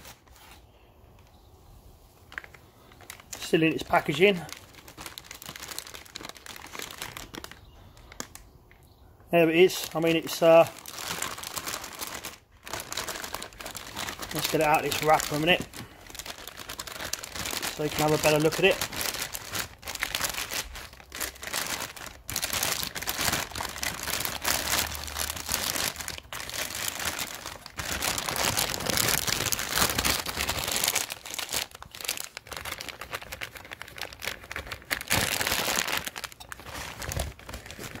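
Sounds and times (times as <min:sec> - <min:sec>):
plastic bag crinkling: 0:02.2 - 0:08.5, 0:09.4 - 0:38.0.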